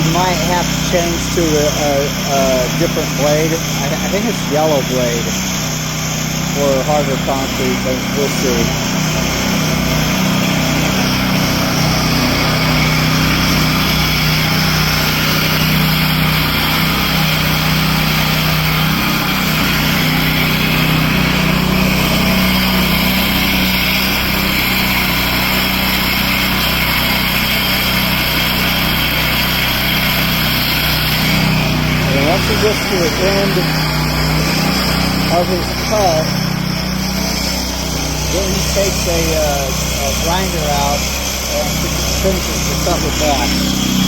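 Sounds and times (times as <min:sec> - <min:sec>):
concrete saw cutting concrete: 0:00.0 - 0:44.0.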